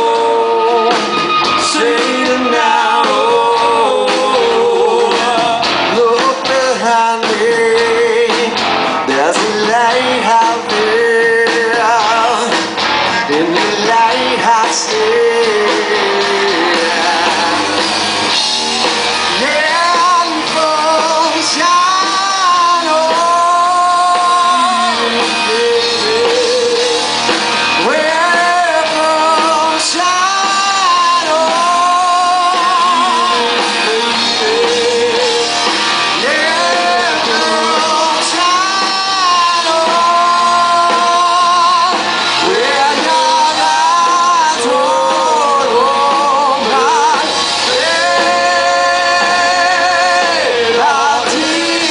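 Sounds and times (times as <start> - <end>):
lead electric guitar bending notes: 0.0 - 51.9
live rock band playing: 0.0 - 51.9.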